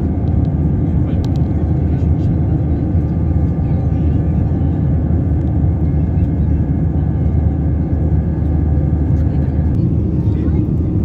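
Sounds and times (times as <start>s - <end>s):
jet engine cabin roar: 0.0s - 11.0s.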